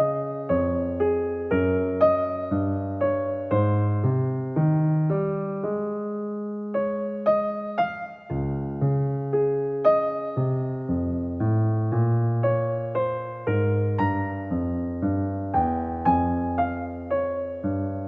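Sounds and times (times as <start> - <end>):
electric piano melody: 0.0 - 18.0.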